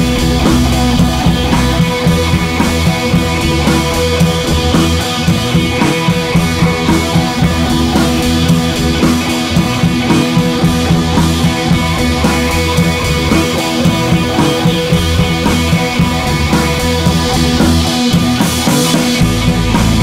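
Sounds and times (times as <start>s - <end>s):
music with drums and guitar: 0.0s - 20.0s.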